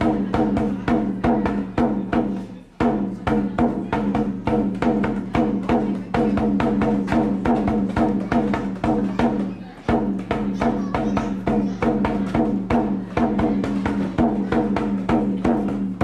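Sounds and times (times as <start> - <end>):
hand drum fast rhythm: 0.0 - 16.0.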